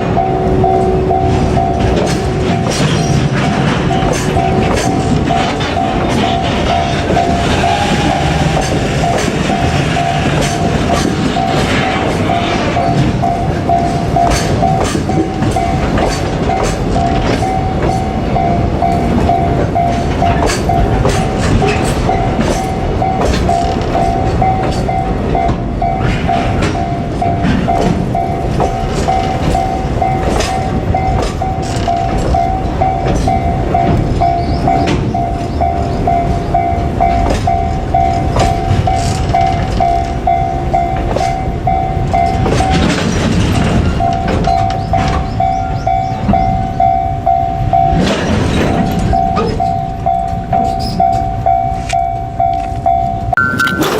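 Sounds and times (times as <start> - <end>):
freight train wheels rumbling: 0.0 - 53.9
level-crossing alarm ding: 0.0 - 53.9.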